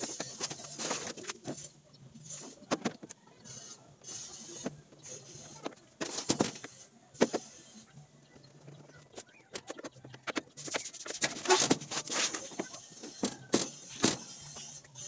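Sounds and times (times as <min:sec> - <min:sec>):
plastic scraping and rattling: 0:00.0 - 0:03.2, 0:04.6 - 0:07.5, 0:08.3 - 0:15.0.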